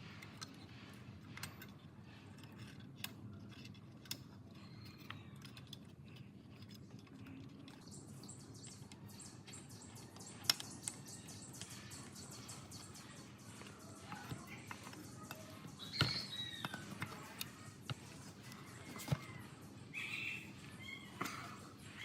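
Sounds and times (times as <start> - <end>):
faint clicks and knocks: 0.2 - 19.8.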